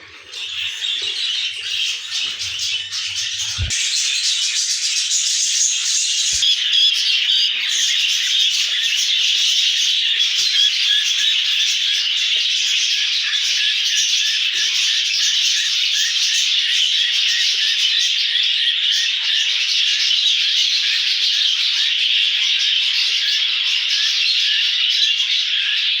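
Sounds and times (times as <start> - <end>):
cage birds chirping: 0.0 - 26.0.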